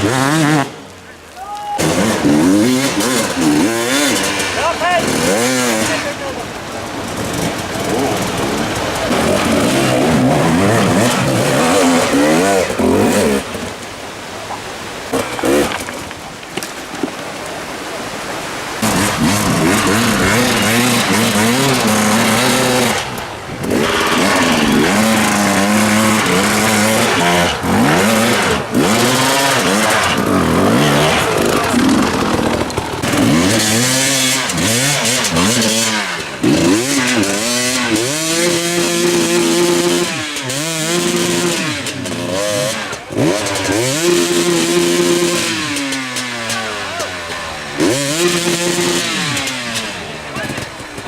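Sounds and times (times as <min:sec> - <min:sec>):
motorcycle engine revving: 0:00.0 - 0:01.0, 0:01.8 - 0:13.8, 0:15.0 - 0:16.0, 0:18.6 - 0:51.0.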